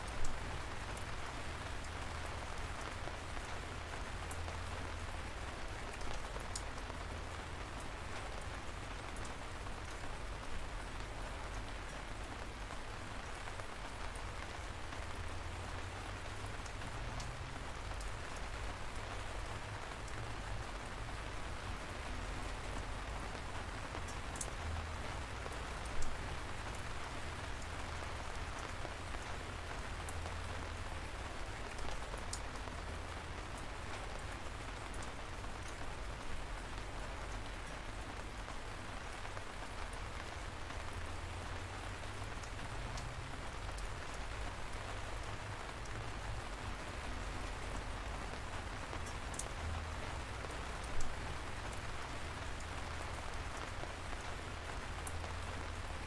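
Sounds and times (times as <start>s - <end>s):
light rain falling: 0.0s - 56.0s
raindrop ticks: 0.0s - 56.0s.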